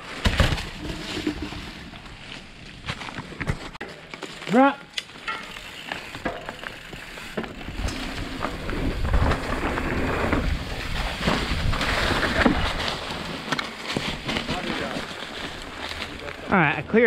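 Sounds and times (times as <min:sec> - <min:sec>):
bike tyres rattling over dirt: 0:00.0 - 0:17.0.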